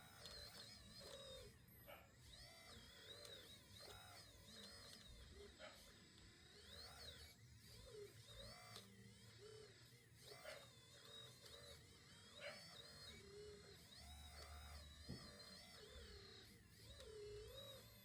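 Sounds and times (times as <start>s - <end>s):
small electric motor whine: 0.0s - 18.0s.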